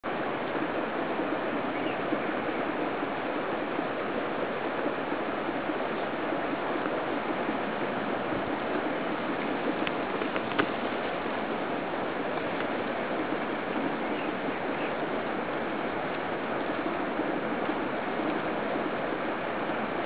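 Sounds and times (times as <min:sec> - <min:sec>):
strong wind rushing through grass: 0:00.0 - 0:20.0.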